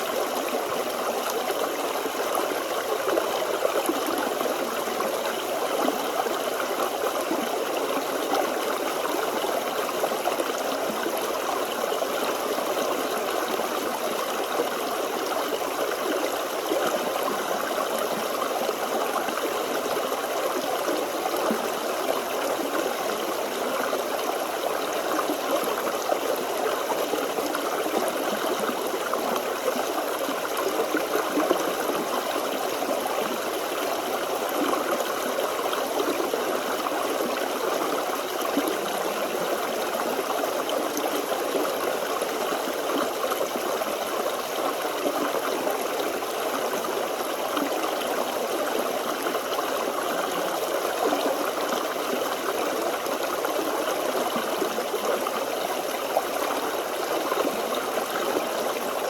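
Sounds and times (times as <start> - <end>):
stream running over stones: 0.0 - 59.0.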